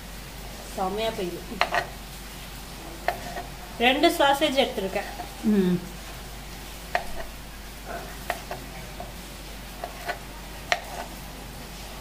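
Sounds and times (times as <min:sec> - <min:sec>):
steady rain hissing: 0:00.0 - 0:12.0.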